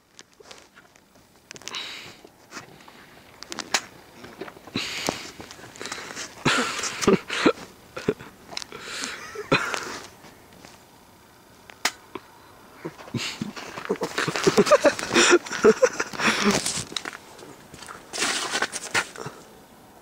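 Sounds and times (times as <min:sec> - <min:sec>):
crunching footsteps: 0:00.0 - 0:10.9, 0:12.8 - 0:19.5.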